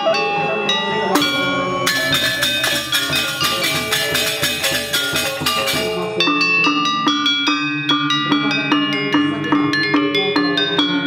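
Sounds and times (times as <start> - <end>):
metallophones struck with mallets: 0.0 - 11.0.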